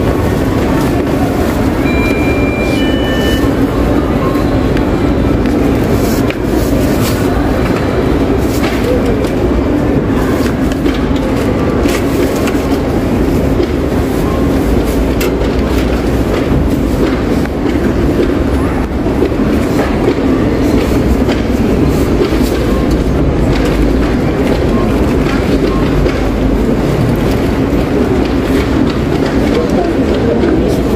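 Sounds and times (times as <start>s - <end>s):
indistinct voices: 0.0s - 30.9s
store din: 0.0s - 30.9s.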